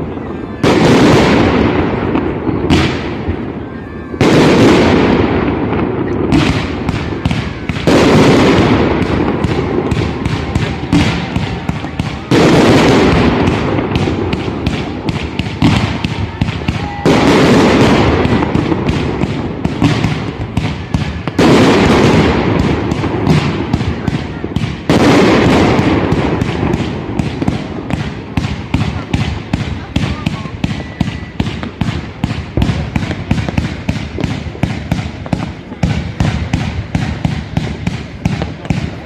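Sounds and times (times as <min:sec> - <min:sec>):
firework bangs rumbling: 0:00.0 - 0:39.0
firework crackling: 0:00.0 - 0:39.0.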